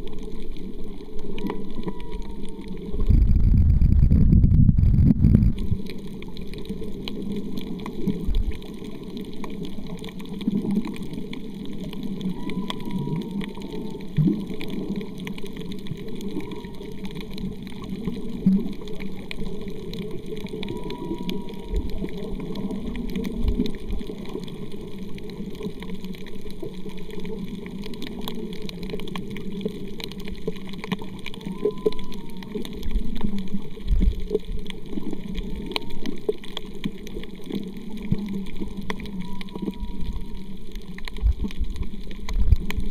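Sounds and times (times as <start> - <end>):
muffled underwater water rush: 0.0 - 42.9
faint clicks: 0.2 - 3.8, 5.2 - 42.9.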